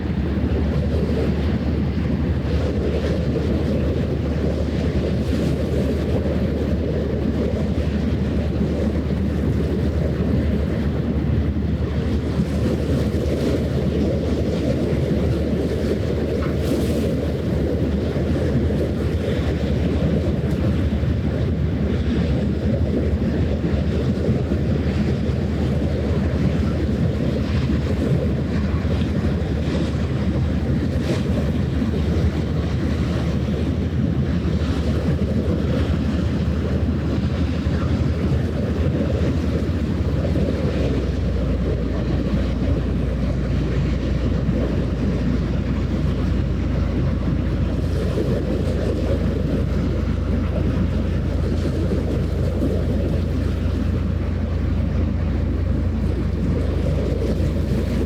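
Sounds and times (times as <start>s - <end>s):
waves lapping and splashing: 0.0s - 58.0s
wind buffeting microphone: 0.0s - 58.0s.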